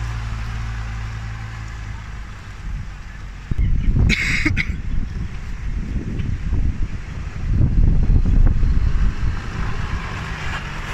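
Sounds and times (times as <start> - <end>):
loud rough low rumble: 0.0 - 10.9
off-road vehicle engine running: 0.0 - 10.9.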